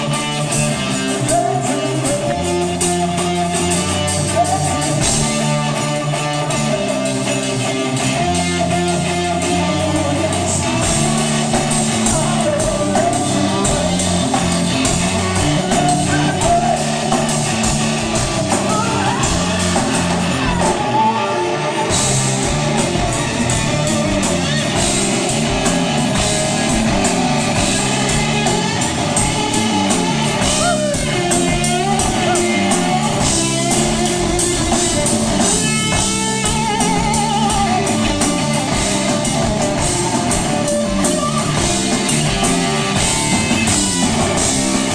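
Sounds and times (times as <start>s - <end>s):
person singing: 0.0s - 44.9s
rock band playing: 0.0s - 44.9s.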